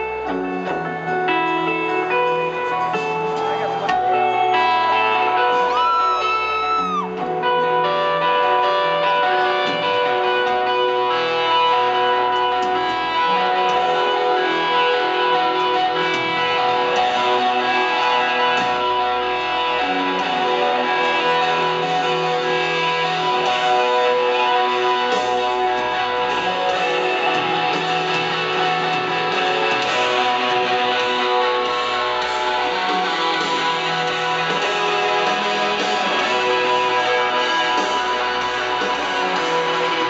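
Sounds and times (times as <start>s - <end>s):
loud electric guitar chords: 0.0s - 40.0s.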